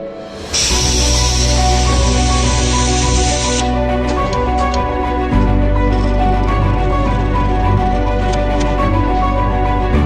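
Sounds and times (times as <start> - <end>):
background music: 0.0 - 10.0
deep bass line: 0.5 - 10.0.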